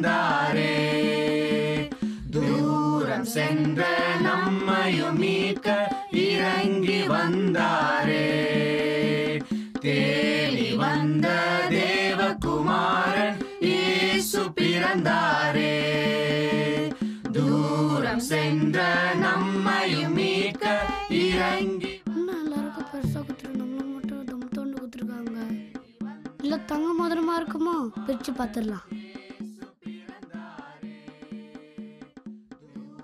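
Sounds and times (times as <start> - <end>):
song with singing voices: 0.0 - 33.0.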